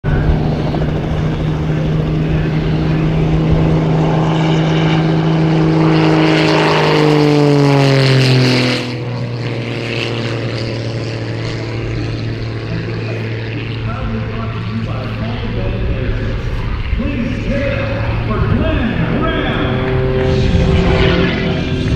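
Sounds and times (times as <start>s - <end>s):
propeller plane engine droning: 0.0s - 21.9s.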